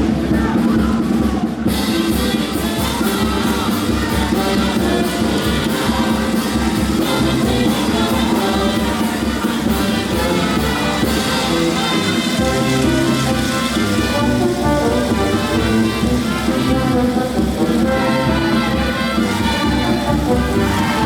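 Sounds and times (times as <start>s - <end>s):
dance music with steady beat: 2.1s - 21.0s.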